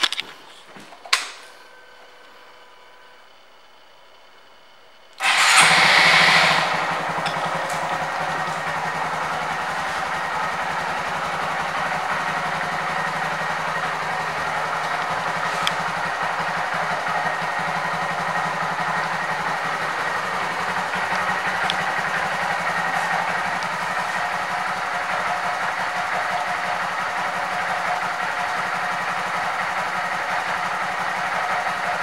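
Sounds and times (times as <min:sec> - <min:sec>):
motorcycle engine starting and idling: 0:05.1 - 0:32.0.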